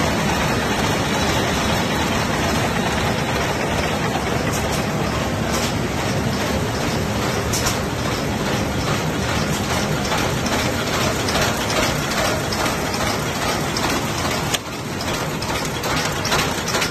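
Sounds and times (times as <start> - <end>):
machine clattering with fast clicks: 0.0 - 16.9.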